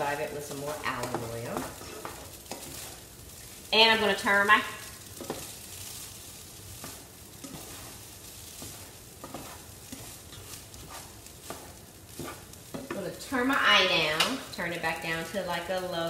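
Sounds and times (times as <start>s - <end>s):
spatula scraping and tapping pan: 0.0s - 14.8s
rice sizzling in oil: 0.0s - 16.0s.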